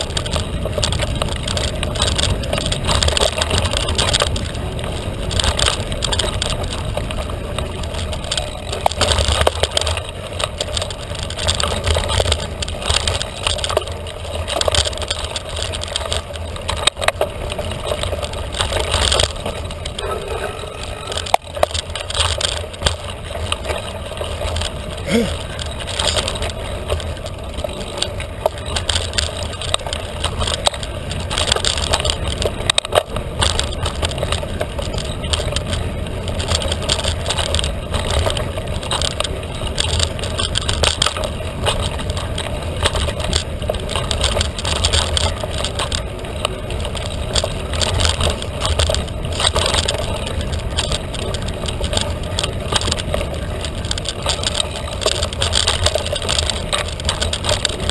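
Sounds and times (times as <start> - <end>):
bike clicks and rattles: 0.0 - 57.9
bike tyres rumbling on dirt: 0.0 - 57.9.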